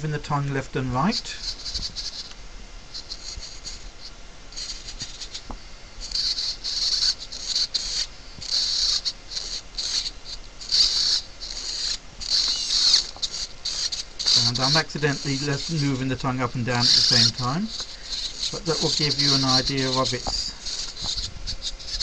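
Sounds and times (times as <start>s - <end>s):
servos whirring: 0.0s - 22.0s.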